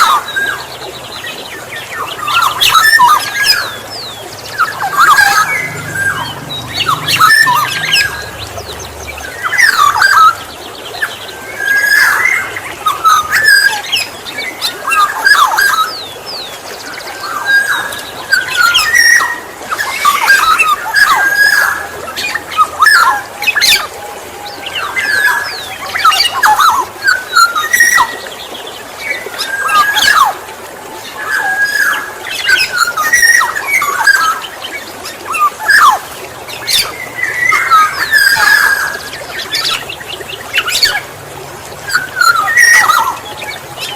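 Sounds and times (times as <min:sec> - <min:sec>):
oriole calling: 0:00.0 - 0:43.9.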